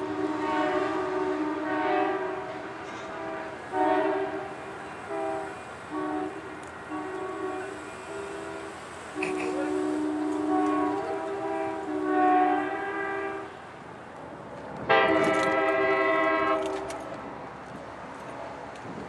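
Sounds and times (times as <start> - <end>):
train horn blasts: 0.0 - 13.7, 14.9 - 17.1.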